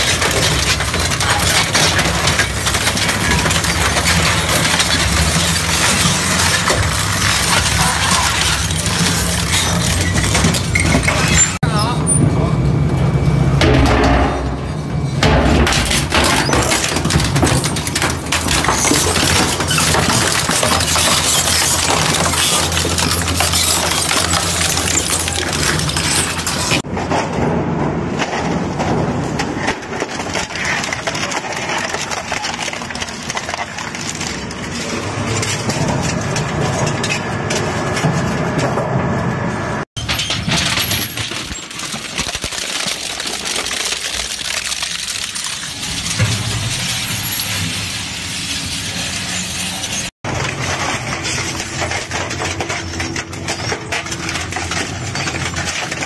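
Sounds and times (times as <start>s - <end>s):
shredder cracking and crunching: 0.0s - 11.6s, 15.2s - 38.9s, 40.0s - 56.0s.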